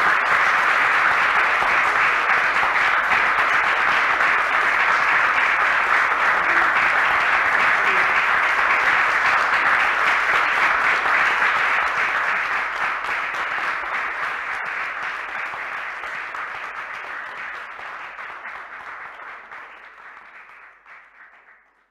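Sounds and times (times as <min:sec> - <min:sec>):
audience applauding: 0:00.0 - 0:21.9.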